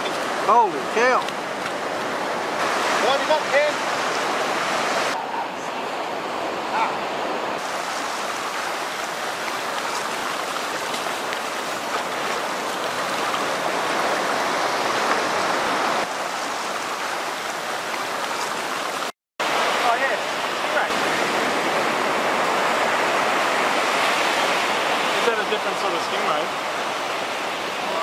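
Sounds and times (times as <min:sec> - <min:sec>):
waves washing up a beach: 0:00.0 - 0:28.0.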